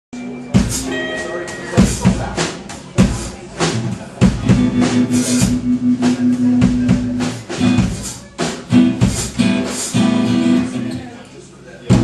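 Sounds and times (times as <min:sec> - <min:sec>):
drum kit hits: 0:00.2 - 0:11.1.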